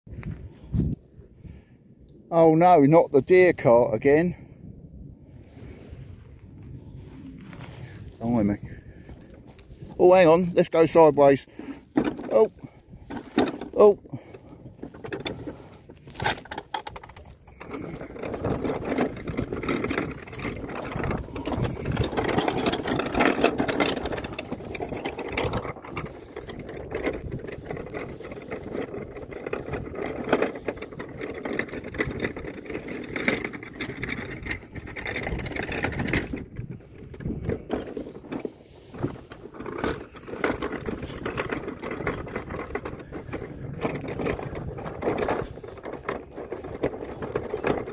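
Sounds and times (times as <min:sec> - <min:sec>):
metal cart rattling over rough ground: 0:02.3 - 0:04.4, 0:05.4 - 0:47.9.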